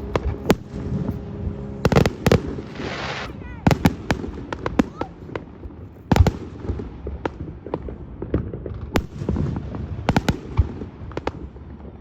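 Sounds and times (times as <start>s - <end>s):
fireworks bangs and pops: 0.0s - 12.0s
steady low rumble: 0.0s - 12.0s.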